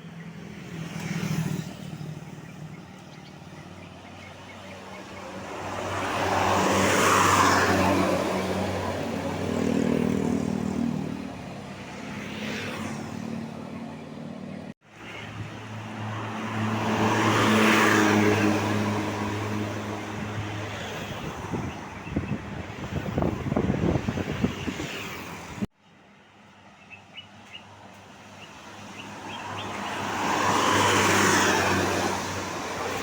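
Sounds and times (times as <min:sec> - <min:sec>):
bus engine and road noise: 0:00.0 - 0:33.0.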